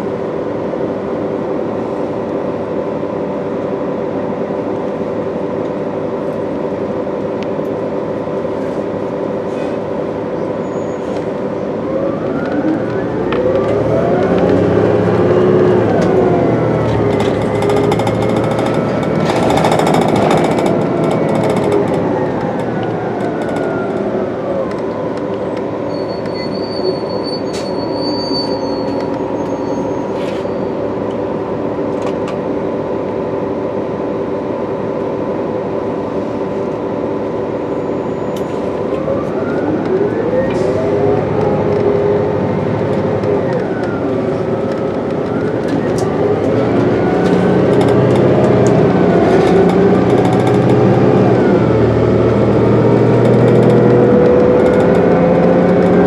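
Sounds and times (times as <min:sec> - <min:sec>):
bus diesel engine idling and revving: 0:00.0 - 0:56.0.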